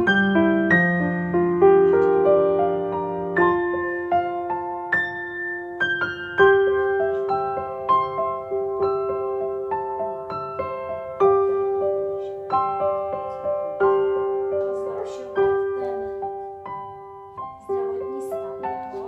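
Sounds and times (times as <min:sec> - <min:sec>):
slow gentle piano melody: 0:00.0 - 0:19.0.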